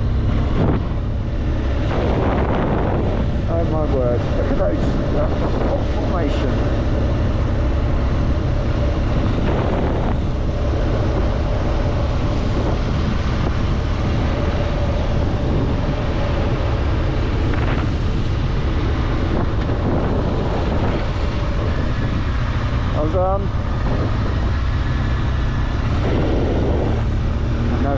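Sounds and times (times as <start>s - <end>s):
motorcycle engine running: 0.0s - 27.9s
wind rushing over microphone: 0.0s - 27.9s.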